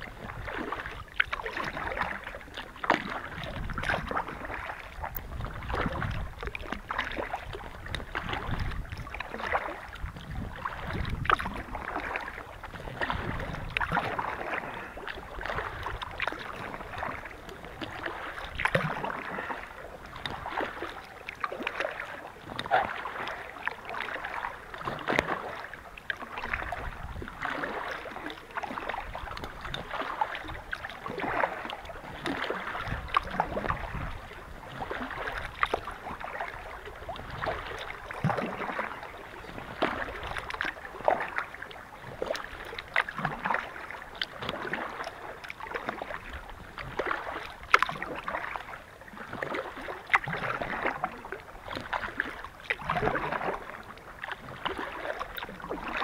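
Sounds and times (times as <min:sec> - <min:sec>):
paddle splashing in water: 0:00.0 - 0:56.0.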